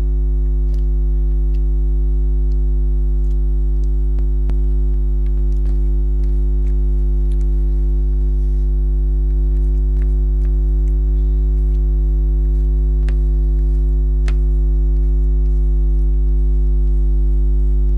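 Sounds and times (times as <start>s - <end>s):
loud low electrical hum: 0.0s - 17.9s.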